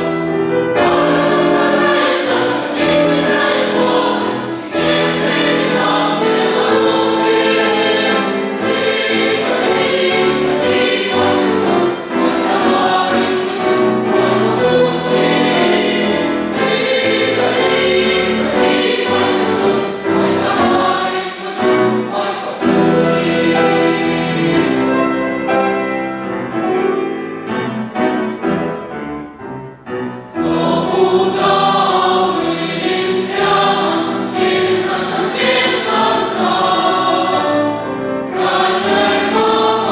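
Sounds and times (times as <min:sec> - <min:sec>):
choir singing in parts: 0:00.0 - 0:26.3, 0:30.2 - 0:39.9
choir accompaniment: 0:00.0 - 0:39.9.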